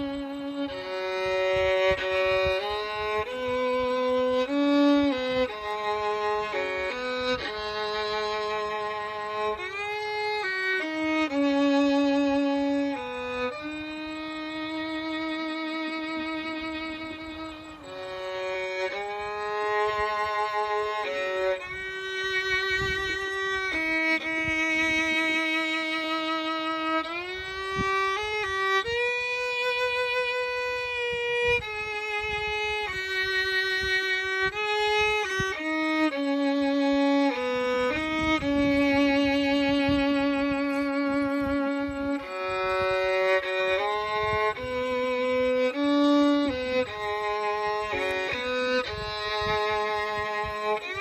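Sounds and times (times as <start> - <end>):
bowed string instrument melody: 0.0 - 51.0.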